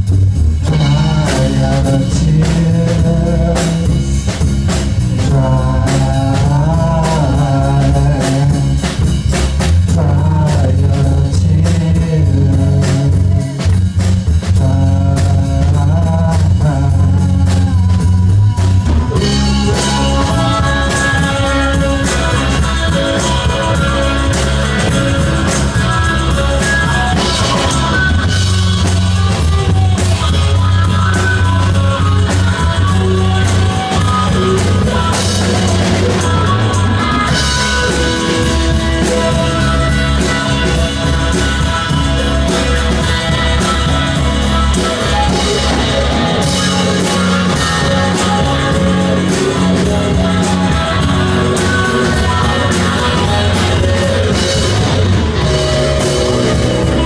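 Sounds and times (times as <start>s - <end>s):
live rock band playing: 0.0s - 57.0s
person singing: 0.6s - 9.1s, 9.8s - 57.0s.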